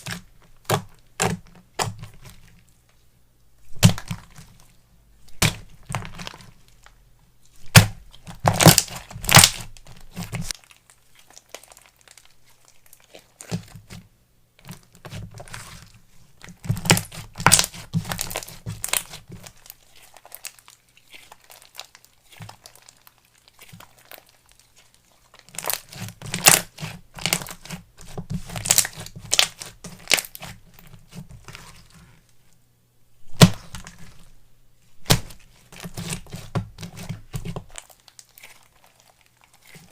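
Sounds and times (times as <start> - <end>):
slime crackling and popping: 3.7 - 14.0, 14.6 - 31.9, 33.3 - 34.2, 35.0 - 39.9.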